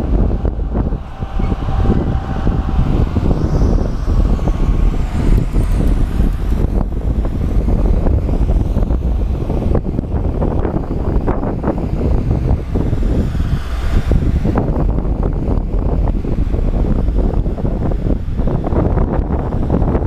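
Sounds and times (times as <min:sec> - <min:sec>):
wind buffeting on microphone: 0:00.0 - 0:20.0.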